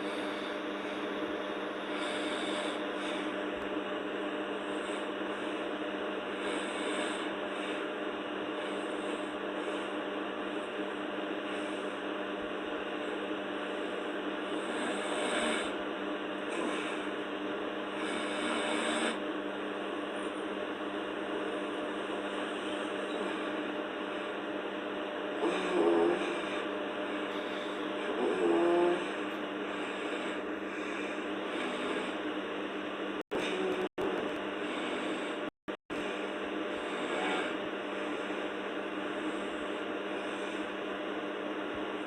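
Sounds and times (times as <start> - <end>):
steady electrical hum: 0.0 - 42.0.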